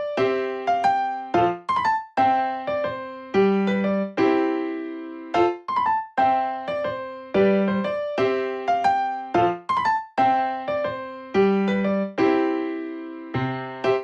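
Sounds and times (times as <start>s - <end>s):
electric piano melody: 0.0s - 14.0s.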